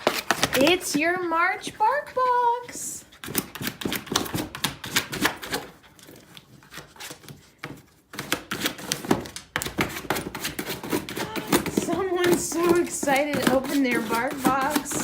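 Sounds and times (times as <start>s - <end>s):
dog claws clicking and scratching: 0.0s - 1.8s, 2.6s - 15.0s.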